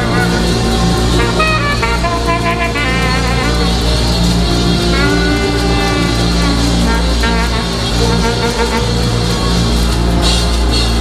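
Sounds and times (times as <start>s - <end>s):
bass: 0.0s - 11.0s
drums: 0.0s - 11.0s
horn melody: 0.0s - 11.0s.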